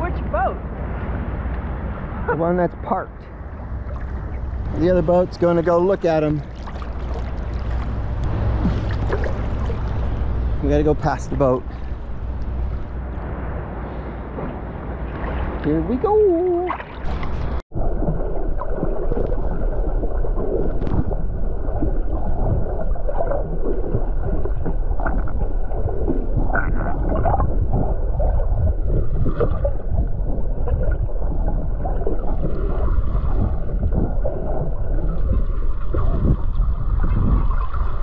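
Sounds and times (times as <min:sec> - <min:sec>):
underwater rush of moving water: 0:02.9 - 0:38.0.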